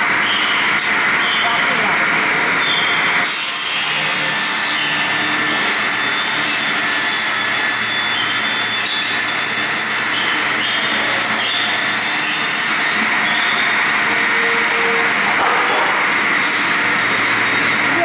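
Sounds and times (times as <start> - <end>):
circular saw cutting log: 0.0 - 18.0.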